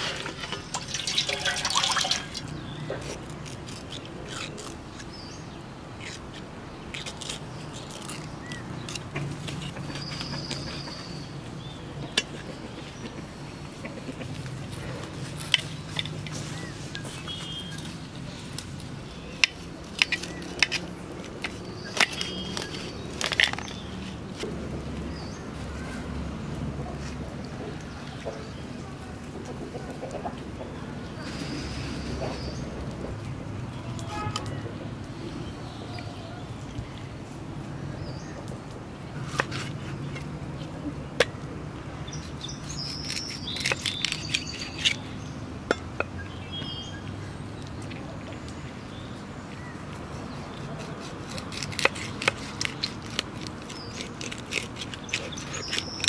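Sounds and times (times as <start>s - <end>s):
small birds chirping: 0.0s - 26.2s, 27.6s - 56.0s.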